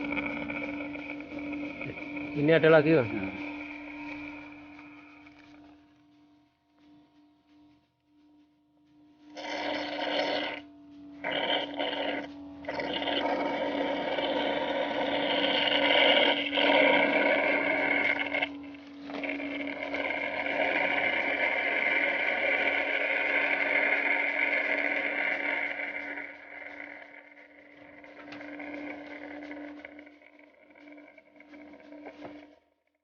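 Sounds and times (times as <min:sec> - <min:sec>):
suction machine motor hum: 0:00.0 - 0:06.2, 0:09.3 - 0:32.5.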